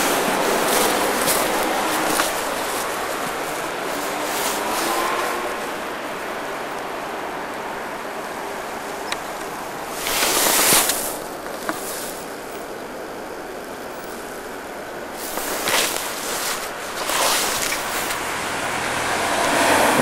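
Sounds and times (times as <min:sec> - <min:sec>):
rushing noise over snow: 0:00.0 - 0:20.0.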